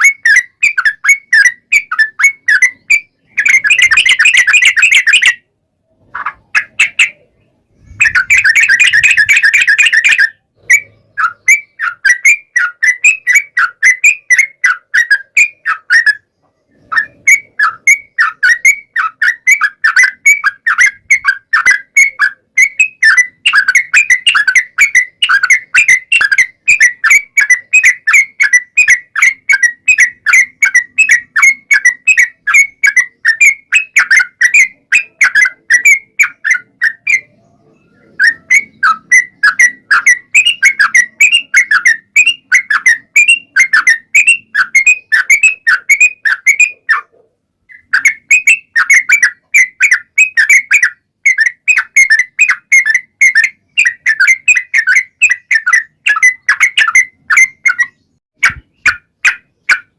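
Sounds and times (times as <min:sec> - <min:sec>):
bird chattering: 0:00.0 - 0:59.9
bird whistling repeated notes: 0:00.0 - 0:59.9.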